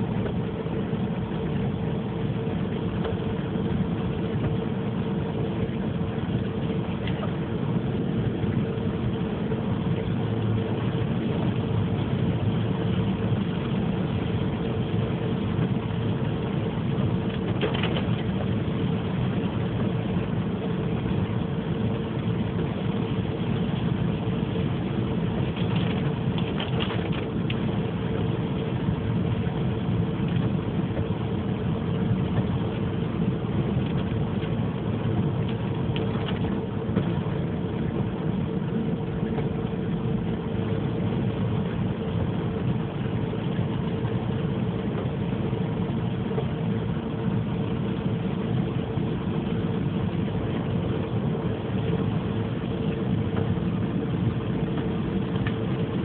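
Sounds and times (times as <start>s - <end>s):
car engine and road noise: 0.0s - 56.0s
constant hum: 0.0s - 56.0s.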